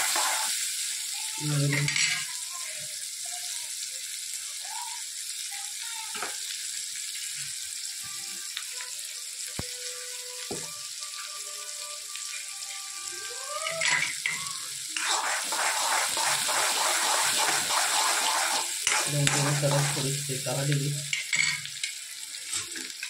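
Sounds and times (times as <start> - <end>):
onions sizzling in wok: 0.0 - 23.0.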